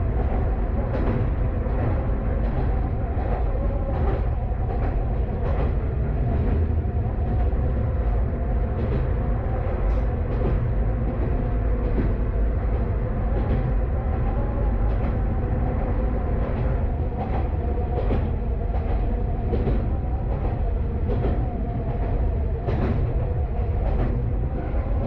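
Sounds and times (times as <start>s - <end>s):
rail clicks: 0.0s - 25.0s
train engine and wheel rumble: 0.0s - 25.0s.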